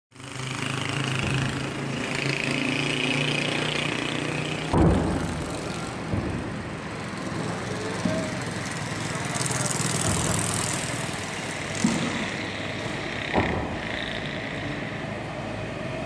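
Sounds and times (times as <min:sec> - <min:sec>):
engine-like drone: 0:00.1 - 0:16.0.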